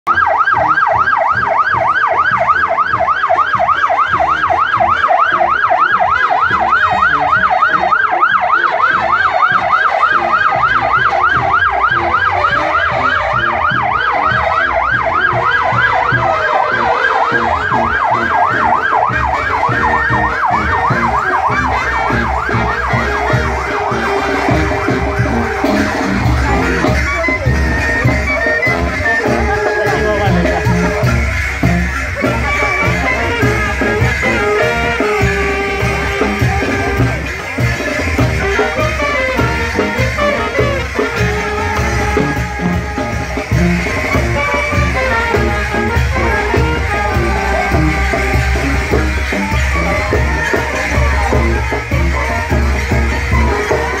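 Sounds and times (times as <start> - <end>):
police siren yelping: 0.0 - 54.0.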